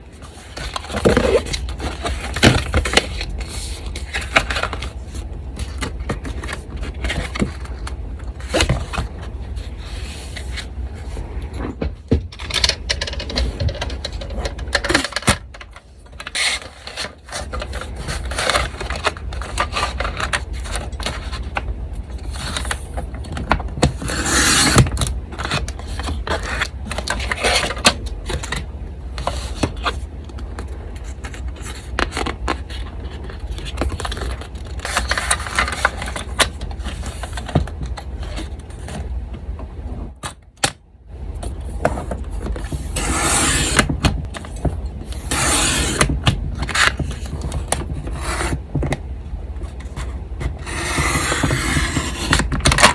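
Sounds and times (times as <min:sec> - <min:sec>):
paper rustling and scraping: 0:00.0 - 0:11.8, 0:13.2 - 0:28.6, 0:29.2 - 0:39.0, 0:41.5 - 0:48.8, 0:49.6 - 0:52.9
electric fan hum: 0:00.0 - 0:52.9.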